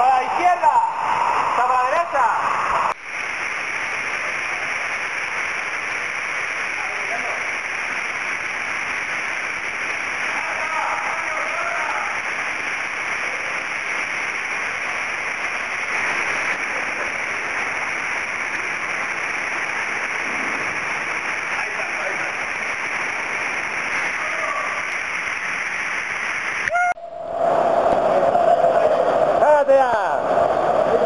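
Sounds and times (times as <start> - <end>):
small waterfall rushing: 1.0 - 26.7.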